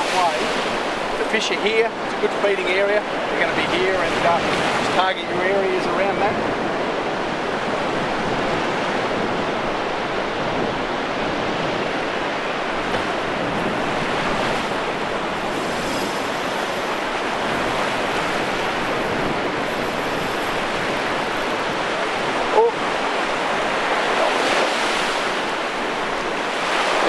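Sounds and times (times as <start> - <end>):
ocean surf breaking: 0.0 - 27.0.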